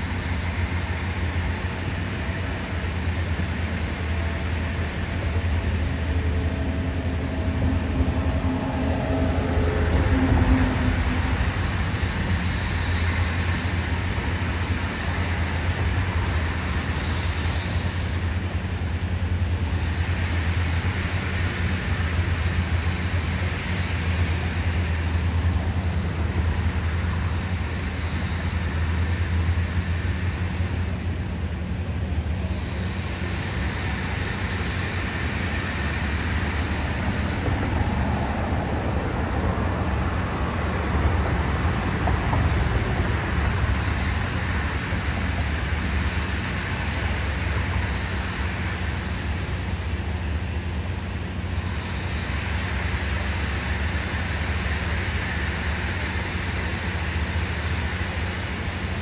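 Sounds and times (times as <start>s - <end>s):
locomotive rumble: 0.0s - 59.0s.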